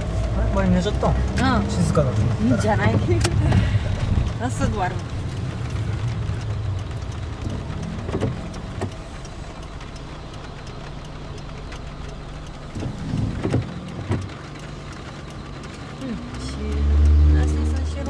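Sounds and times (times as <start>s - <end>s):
engine and road rumble: 0.0s - 18.0s.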